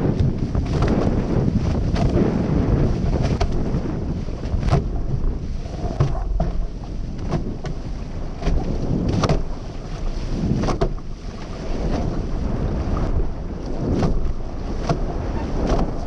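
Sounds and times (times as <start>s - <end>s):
hulls splashing against waves: 0.0s - 16.0s
rushing water: 0.0s - 16.0s
wind buffeting microphone: 0.0s - 16.0s.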